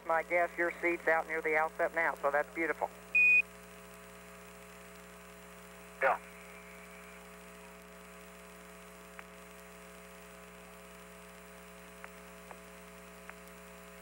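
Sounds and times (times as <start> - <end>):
radio hum and hiss: 0.0 - 14.0.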